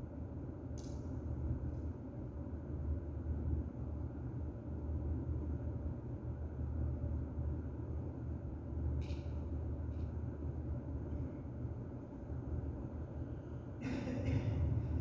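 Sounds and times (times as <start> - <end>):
low room rumble and hum: 0.0 - 15.0.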